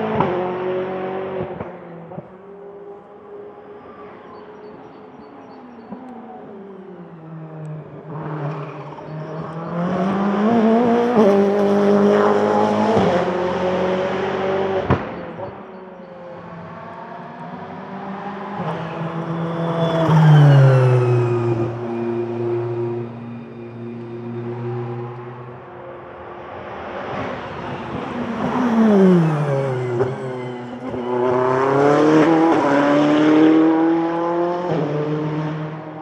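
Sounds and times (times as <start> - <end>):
race car engine passing: 6.5 - 15.6, 16.2 - 36.0.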